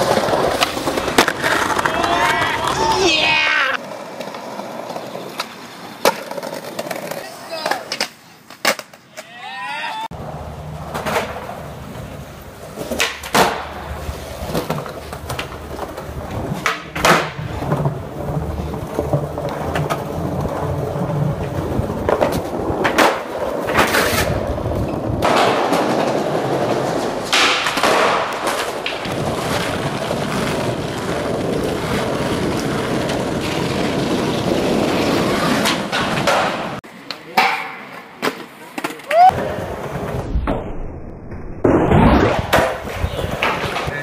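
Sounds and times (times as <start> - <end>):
skateboard clacks: 0.0 - 9.5, 10.1 - 40.2, 42.2 - 44.0
skateboard wheels rolling: 0.0 - 44.0.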